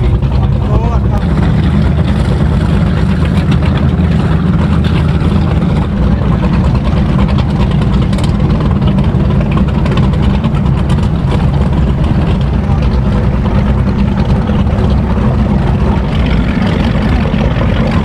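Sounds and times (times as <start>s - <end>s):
boat engines deep rumble: 0.0s - 18.0s.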